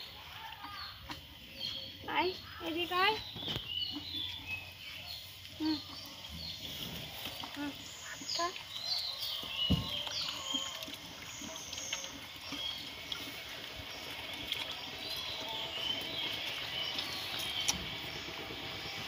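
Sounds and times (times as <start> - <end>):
small birds chirping: 0.0 - 19.0
calf slurping feed: 2.8 - 19.0.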